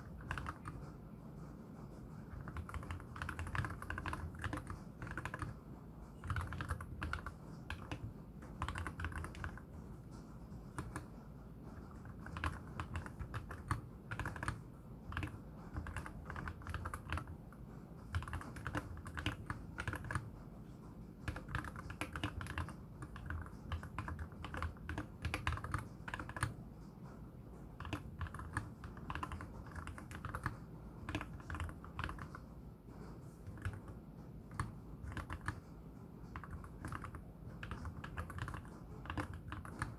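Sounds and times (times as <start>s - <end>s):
mechanical keyboard typing: 0.0s - 1.0s, 2.3s - 9.9s, 10.6s - 11.1s, 11.7s - 20.4s, 21.2s - 26.7s, 27.7s - 32.5s, 33.4s - 39.9s.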